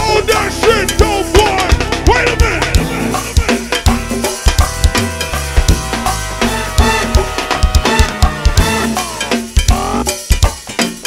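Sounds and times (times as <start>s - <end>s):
drum kit beat: 0.0s - 11.0s
live band music: 0.0s - 11.0s.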